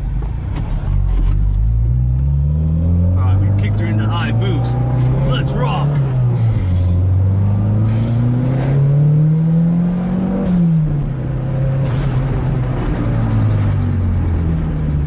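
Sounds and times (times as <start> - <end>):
turbocharged engine accelerating hard: 1.7 - 15.0.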